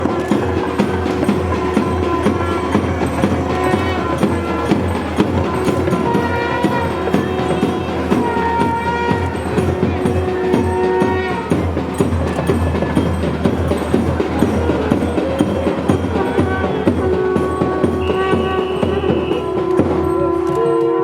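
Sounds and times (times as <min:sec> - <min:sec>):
fast dense drumming: 0:00.0 - 0:20.3.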